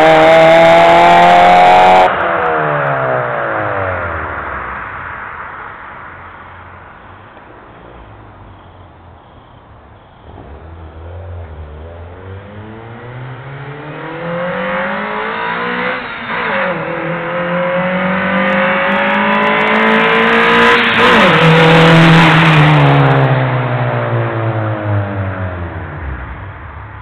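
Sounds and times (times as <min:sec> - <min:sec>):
car engine accelerating hard: 0:00.0 - 0:05.8, 0:10.2 - 0:27.0.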